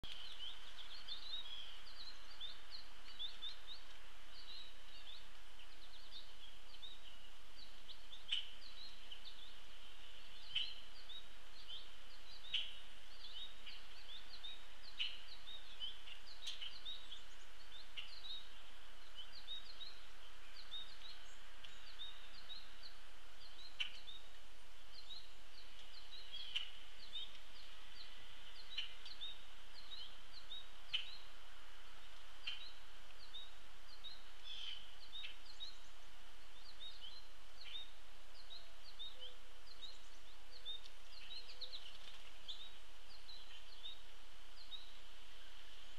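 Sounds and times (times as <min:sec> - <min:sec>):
bird chirps: 0:00.0 - 0:31.3, 0:32.4 - 0:45.0.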